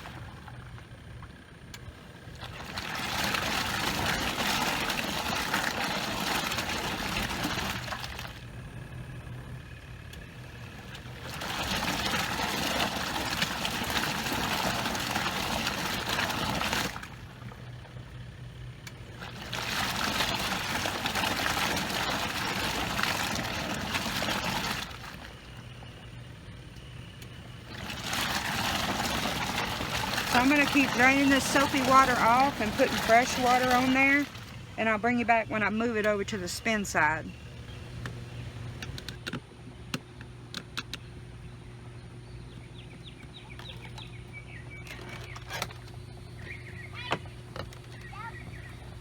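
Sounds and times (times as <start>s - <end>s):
water sloshing in washing machine: 0.0s - 39.4s, 41.9s - 49.0s
low motor hum: 0.0s - 49.0s.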